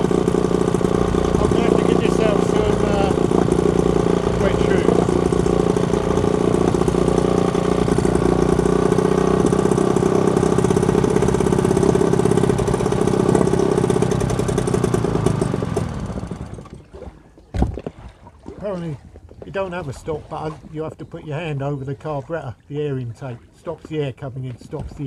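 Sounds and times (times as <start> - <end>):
small boat engine running: 0.0 - 25.0.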